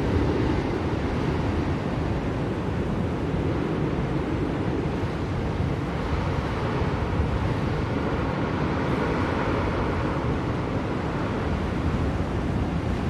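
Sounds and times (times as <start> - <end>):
blizzard wind blowing: 0.0 - 13.0.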